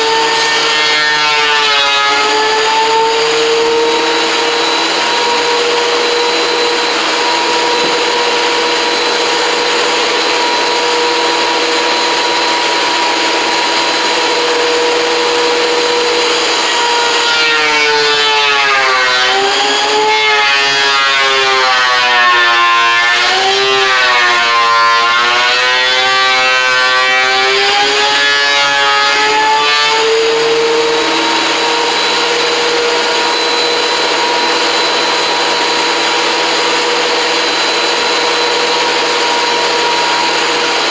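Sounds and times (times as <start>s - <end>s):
thickness planer whining: 0.0s - 40.9s.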